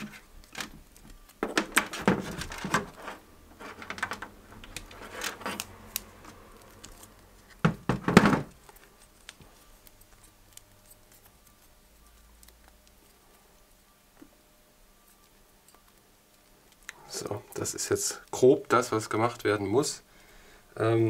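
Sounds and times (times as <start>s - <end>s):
electrical tape rustling and crackling: 0.0s - 20.7s.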